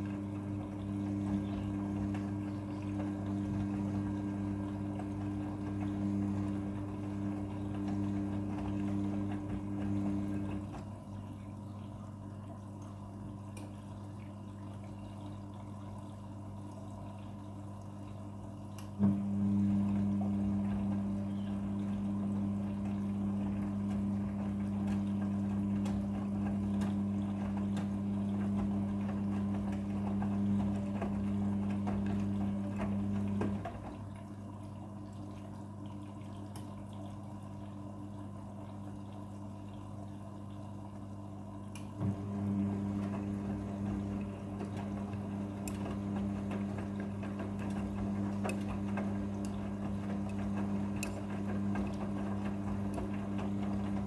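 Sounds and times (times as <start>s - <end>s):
drum tumbling laundry: 0.0s - 13.3s, 18.6s - 54.0s
motor hum: 0.0s - 54.0s
washing machine filling with water: 0.0s - 54.0s.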